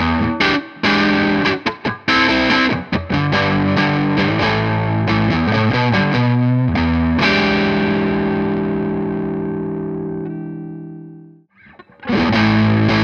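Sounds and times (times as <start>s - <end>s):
distorted electric guitar: 0.0s - 13.0s.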